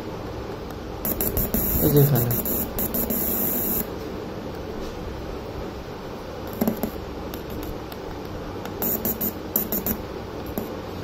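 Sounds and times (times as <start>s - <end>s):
loud static hiss: 0.0s - 11.0s
low background hum: 0.0s - 11.0s.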